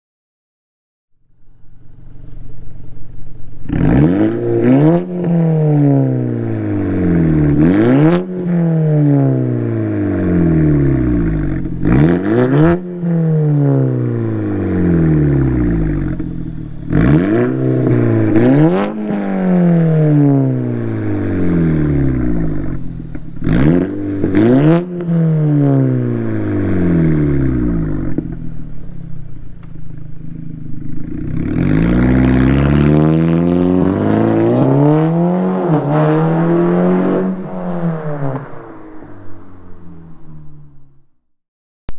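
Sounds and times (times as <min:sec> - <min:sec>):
car engine revving: 0:02.3 - 0:41.0.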